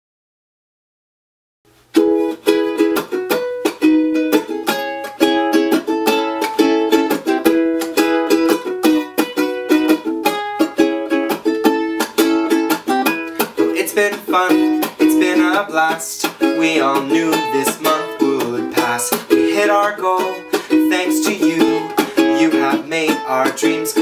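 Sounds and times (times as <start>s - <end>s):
ukulele strumming: 1.7s - 24.0s.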